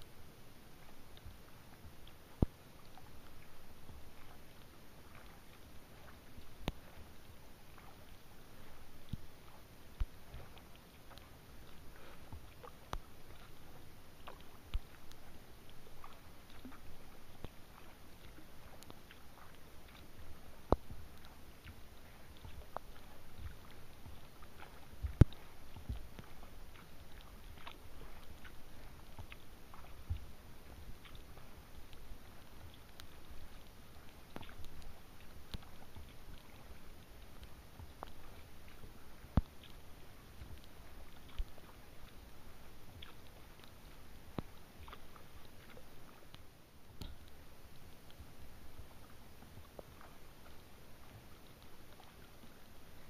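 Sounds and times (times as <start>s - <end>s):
paddle splashes and drips: 0.0s - 53.0s
small ticks: 0.8s - 52.6s.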